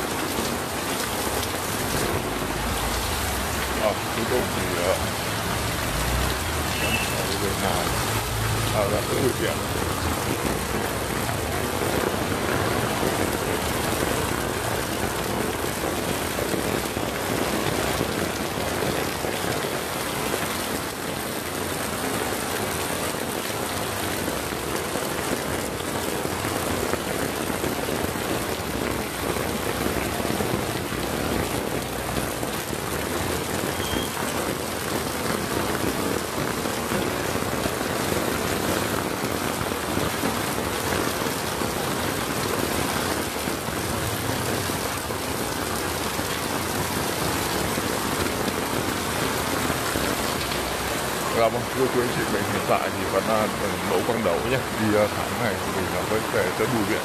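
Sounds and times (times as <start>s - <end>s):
heavy rain on a wet street: 0.0s - 57.0s.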